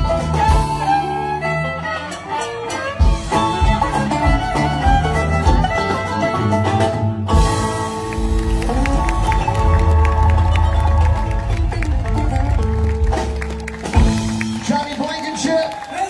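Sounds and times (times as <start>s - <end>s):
bowed fiddle: 0.0s - 13.4s
banjo: 0.0s - 14.5s
electric guitar: 0.0s - 14.6s.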